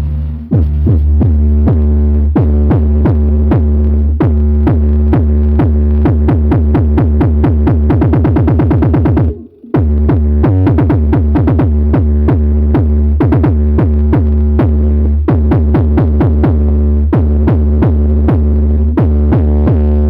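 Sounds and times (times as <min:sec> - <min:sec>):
loud electronic music with heavy bass: 0:00.0 - 0:20.0.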